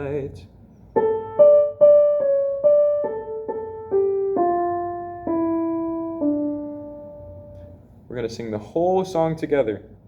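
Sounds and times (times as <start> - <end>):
slow piano melody: 0.0 - 8.1.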